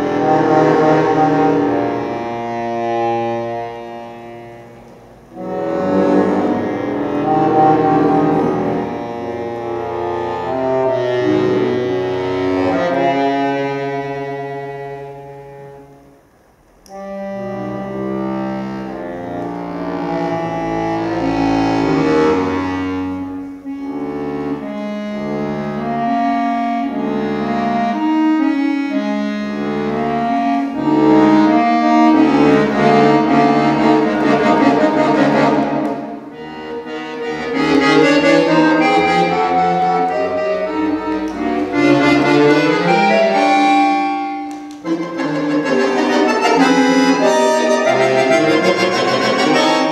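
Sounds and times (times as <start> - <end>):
solo accordion playing chords: 0.0 - 49.9.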